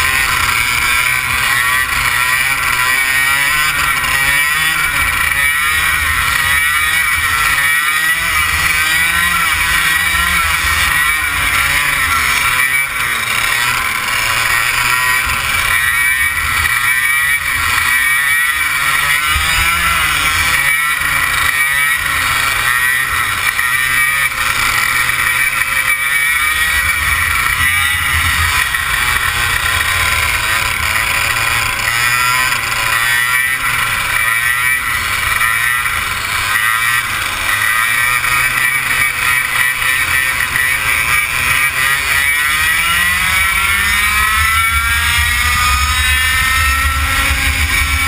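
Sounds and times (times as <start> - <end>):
kart engine at high revs: 0.0 - 48.0.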